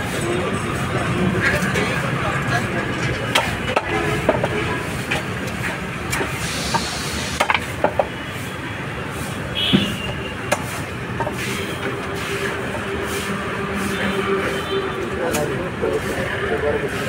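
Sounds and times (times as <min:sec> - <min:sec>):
market noise: 0:00.0 - 0:17.0.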